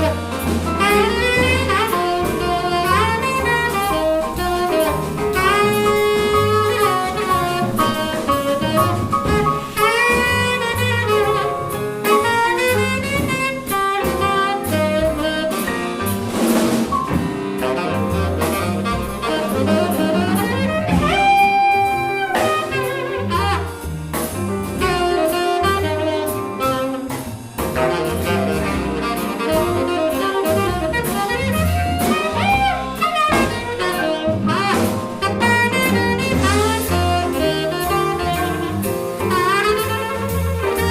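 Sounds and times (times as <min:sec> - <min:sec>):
horn solo: 0:00.0 - 0:16.1, 0:17.6 - 0:23.9, 0:24.7 - 0:40.9
drums with cymbal beat: 0:00.0 - 0:40.9
piano: 0:00.0 - 0:40.9
walking double bass: 0:00.0 - 0:40.9.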